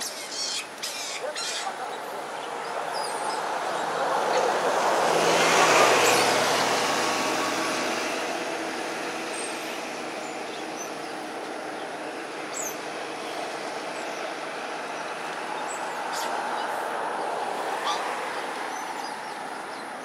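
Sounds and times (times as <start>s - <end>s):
background traffic: 0.0s - 20.0s
vehicle passing: 0.8s - 20.0s.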